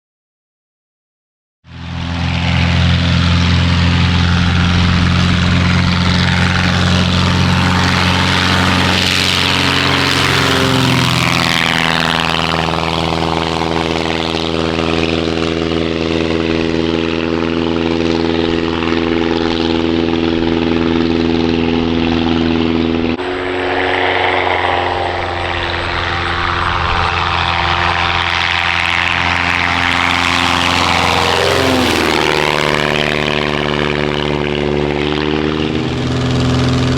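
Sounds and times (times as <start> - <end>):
light aircraft engine and propeller: 1.6 - 36.9.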